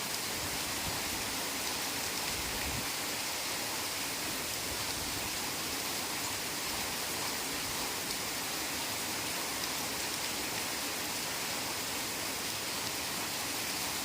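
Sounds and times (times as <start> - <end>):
heavy rain on a forest: 0.0 - 14.0.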